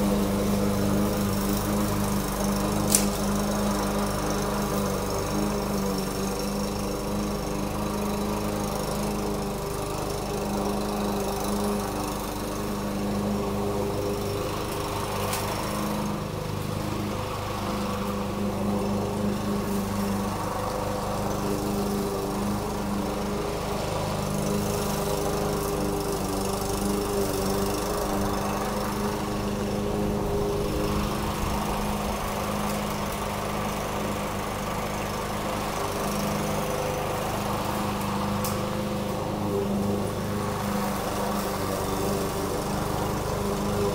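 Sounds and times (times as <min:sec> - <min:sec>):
lawn mower engine running: 0:00.0 - 0:43.9.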